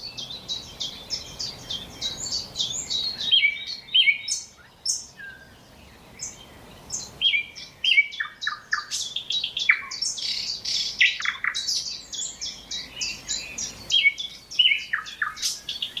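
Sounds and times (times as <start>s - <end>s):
nightingale singing: 0.0s - 16.0s.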